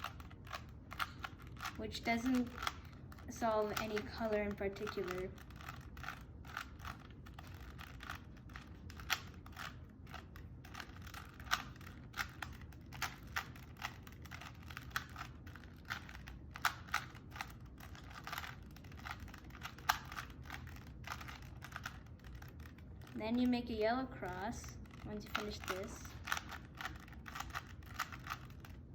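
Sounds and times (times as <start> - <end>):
plastic puzzle pieces clicking: 0.0 - 23.6, 24.8 - 28.9
faint low hum: 0.0 - 28.9.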